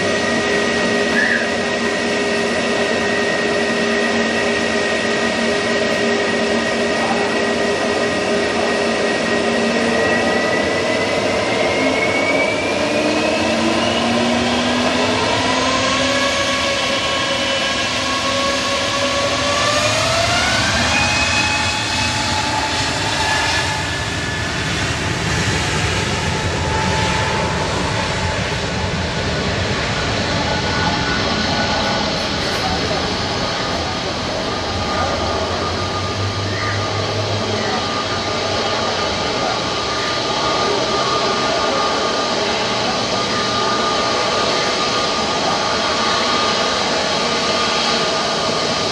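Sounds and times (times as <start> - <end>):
jet engines whining: 0.0 - 48.9
steady engine rumble: 0.0 - 48.9.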